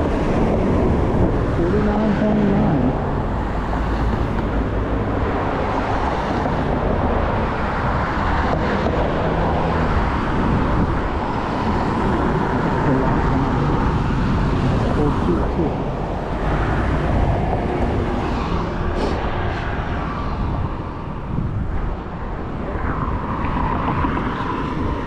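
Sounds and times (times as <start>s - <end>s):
scooter road noise: 0.0s - 25.0s
wind rumble on microphone: 0.0s - 25.0s.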